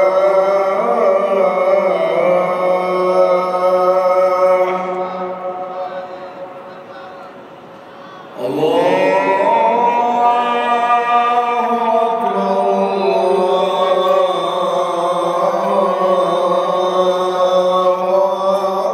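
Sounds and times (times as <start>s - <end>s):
person chanting long melodic notes: 0.0s - 18.9s.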